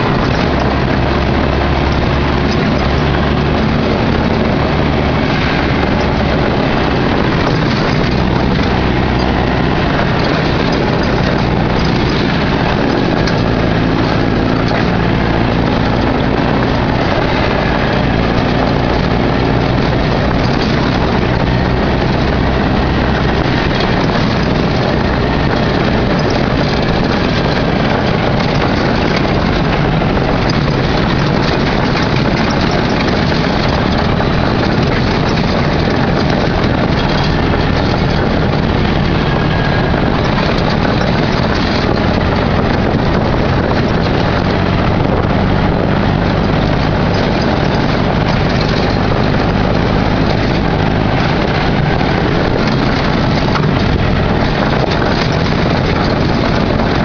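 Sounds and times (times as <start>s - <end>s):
buggy engine running: 0.0s - 57.0s
drivetrain and trail noise: 0.0s - 57.0s.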